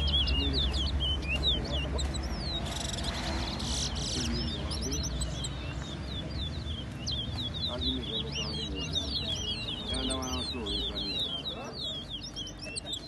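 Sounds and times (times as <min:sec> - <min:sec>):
finches singing whistled song: 0:00.0 - 0:13.0.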